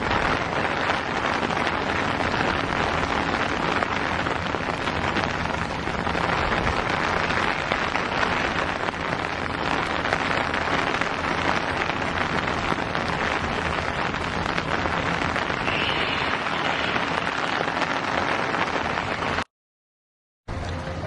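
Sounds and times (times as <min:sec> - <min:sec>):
rain hiss with crackle: 0:00.0 - 0:19.5.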